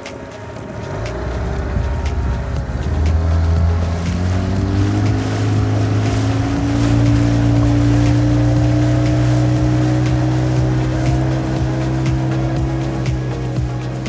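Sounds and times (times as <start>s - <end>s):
outboard motor running: 0.0s - 14.0s
rushing water: 0.0s - 14.0s.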